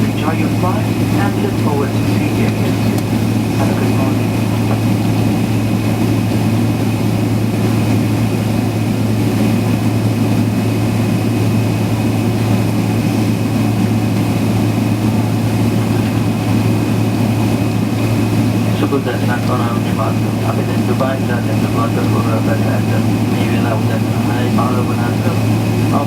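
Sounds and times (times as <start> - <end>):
airliner cabin low hum: 0.0 - 26.0
high whine: 0.0 - 26.0.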